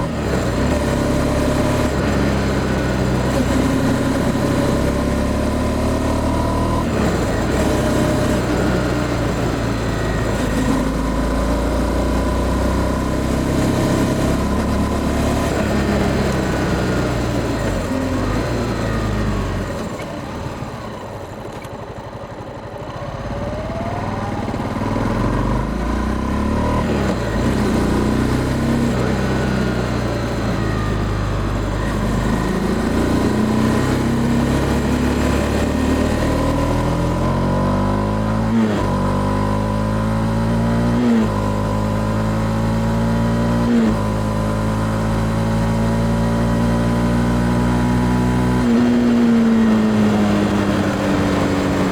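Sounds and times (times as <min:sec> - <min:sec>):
motorcycle engine revving and shifting: 0:00.0 - 0:21.8, 0:22.9 - 0:51.9.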